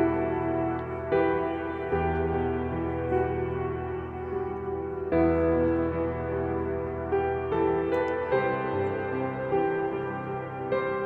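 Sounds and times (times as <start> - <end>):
slow ambient piano chords: 0.0 - 11.0.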